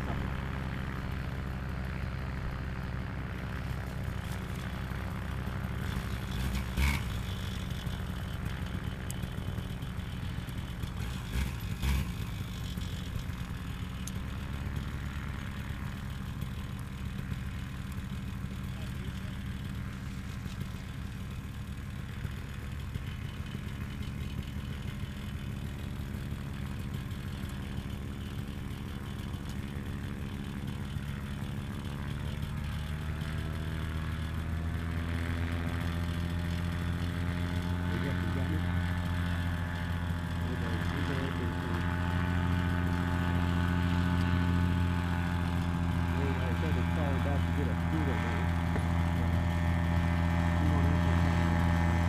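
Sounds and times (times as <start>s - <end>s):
paramotor engine running: 0.0s - 52.0s.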